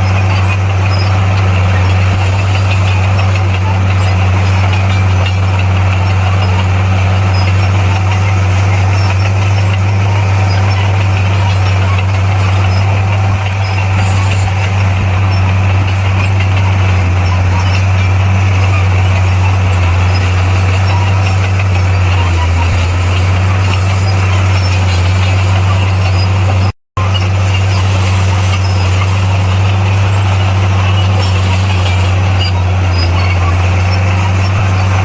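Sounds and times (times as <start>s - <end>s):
diesel engine deep drone: 0.0s - 35.0s.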